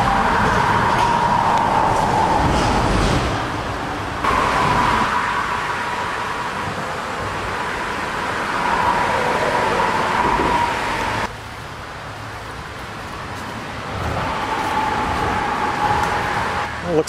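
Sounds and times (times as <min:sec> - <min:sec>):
road traffic rush with tyre whine: 0:00.0 - 0:17.0.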